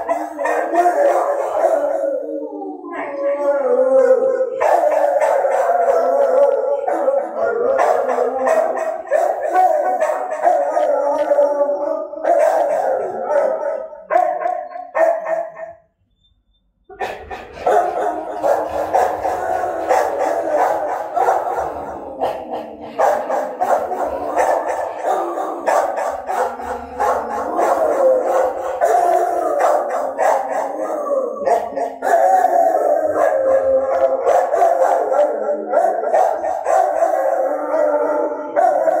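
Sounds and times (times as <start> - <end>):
dogs howling: 0.0 - 15.7, 16.9 - 39.0.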